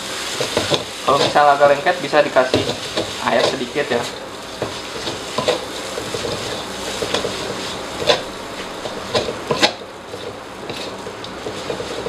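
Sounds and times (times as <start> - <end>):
noodles sizzling: 0.0 - 12.0
spatula scraping and knocking wok: 0.0 - 12.0.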